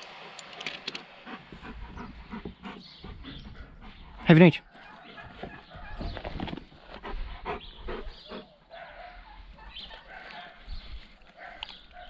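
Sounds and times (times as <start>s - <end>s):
dog eating and snuffling: 1.2s - 12.0s.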